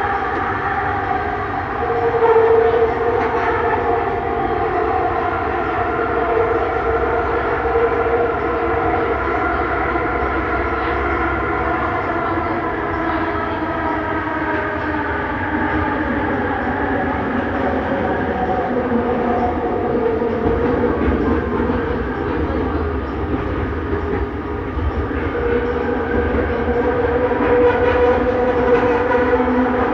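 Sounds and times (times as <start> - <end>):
train rumble: 0.0 - 29.9.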